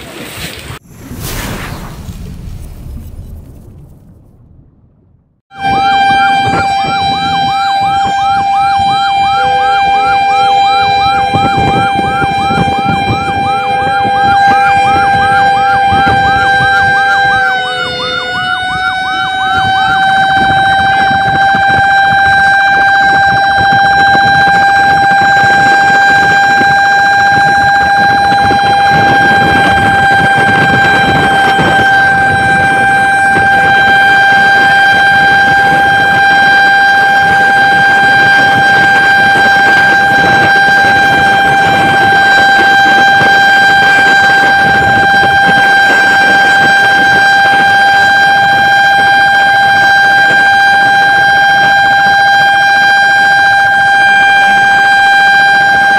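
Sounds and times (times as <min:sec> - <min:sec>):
road noise: 0:00.0 - 0:52.1
truck engine rumble: 0:00.0 - 0:55.9
fire truck siren steady tone: 0:05.5 - 0:55.9.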